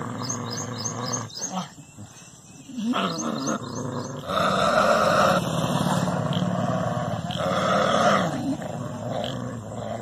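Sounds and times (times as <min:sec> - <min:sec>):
dog growling low: 0:00.0 - 0:01.8, 0:02.7 - 0:10.0.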